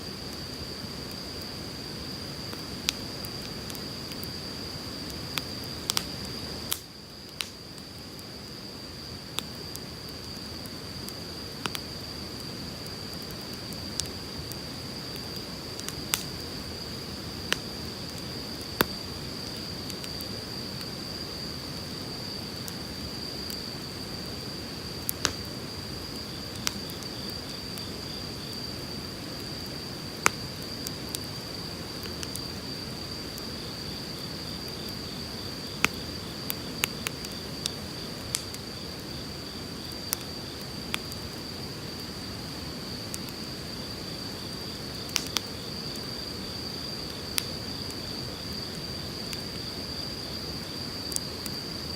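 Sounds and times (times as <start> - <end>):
wood fire crackling and popping: 0.1 - 46.1, 47.0 - 49.7.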